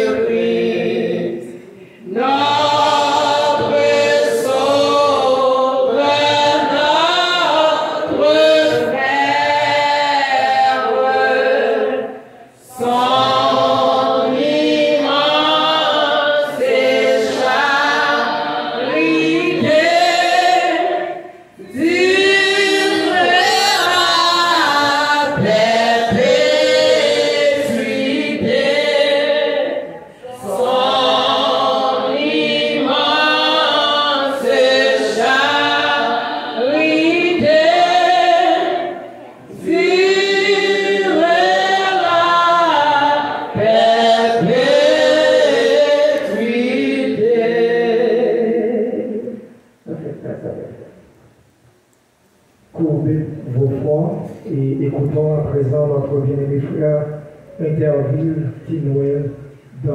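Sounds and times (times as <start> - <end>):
group singing unaccompanied: 0.0 - 49.6.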